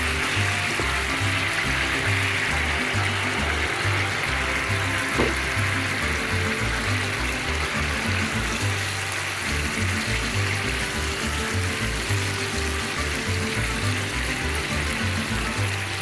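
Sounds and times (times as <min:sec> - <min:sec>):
music with repeating bass line: 0:00.0 - 0:16.0.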